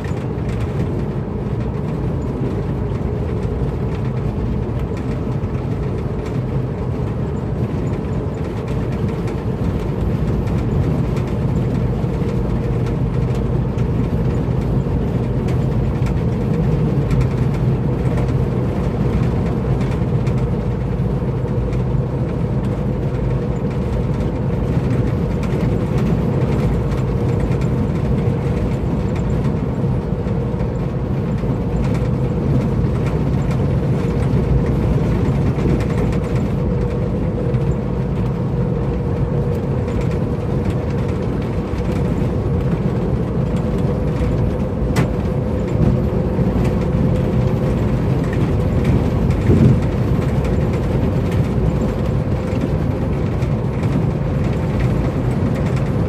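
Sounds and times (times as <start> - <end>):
truck engine drone: 0.0 - 56.0
tyre and road noise: 0.0 - 56.0.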